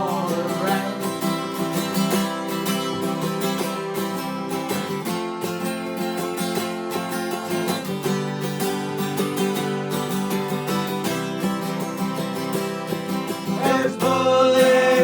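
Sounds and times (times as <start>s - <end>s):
country guitar strumming: 0.0s - 15.0s.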